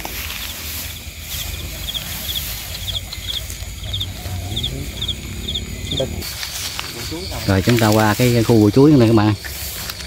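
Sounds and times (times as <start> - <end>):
rustling and handling noise: 0.0 - 5.5, 6.2 - 10.0
insects chirping: 0.0 - 10.0.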